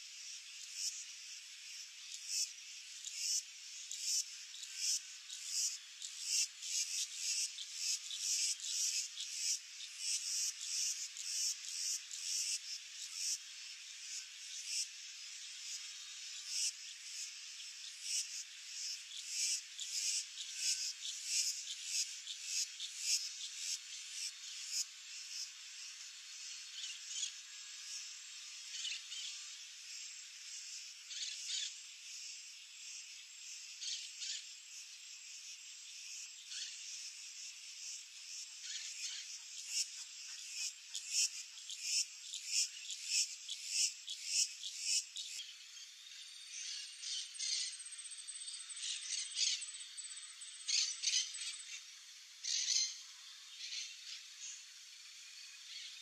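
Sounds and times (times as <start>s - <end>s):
insects chirping: 0.1s - 56.0s.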